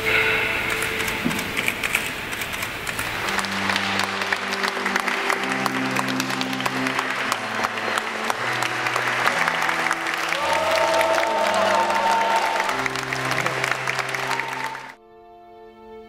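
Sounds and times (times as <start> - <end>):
congregation applauding: 0.6 - 15.0.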